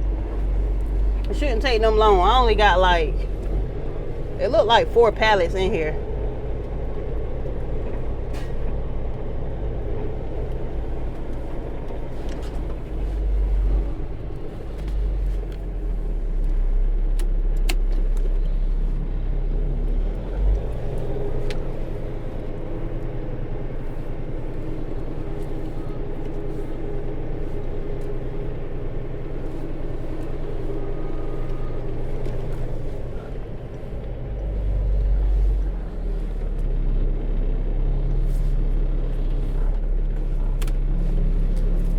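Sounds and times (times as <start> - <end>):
diesel truck engine running: 0.0 - 41.9.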